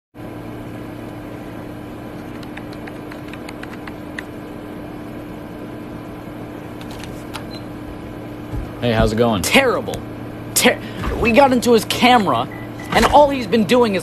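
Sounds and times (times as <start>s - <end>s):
mechanical hum: 0.2s - 14.0s.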